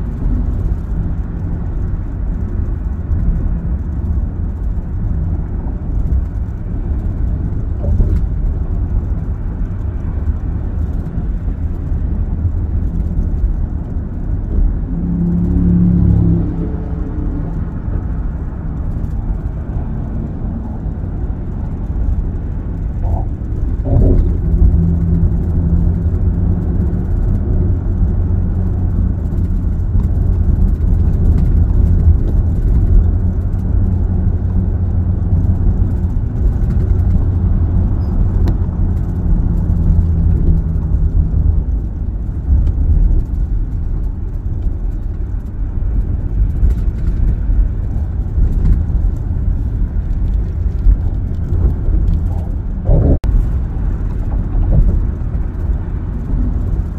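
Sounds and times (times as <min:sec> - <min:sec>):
faint engine hum: 0:00.0 - 0:56.9
road and tyre rumble: 0:00.0 - 0:56.9.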